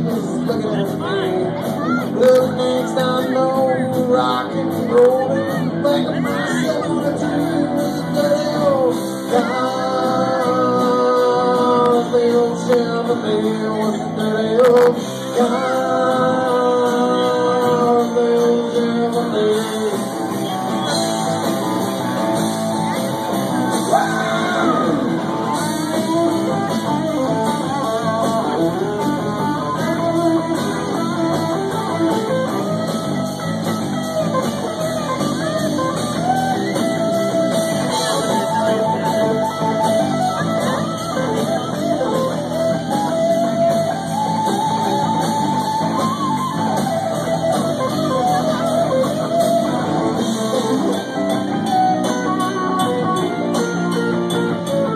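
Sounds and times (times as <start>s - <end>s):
lead guitar bending notes: 0.0s - 54.9s
live rock band playing: 0.0s - 54.9s.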